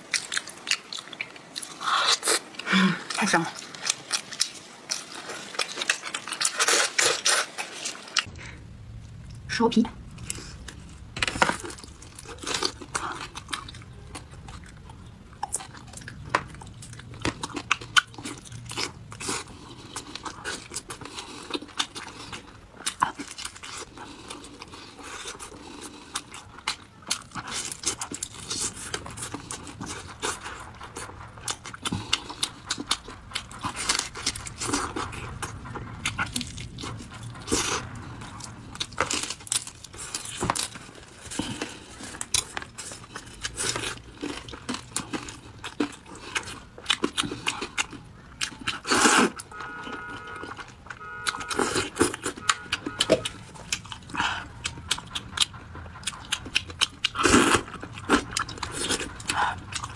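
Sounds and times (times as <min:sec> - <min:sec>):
wet chewing and gnawing: 0:00.0 - 0:59.9.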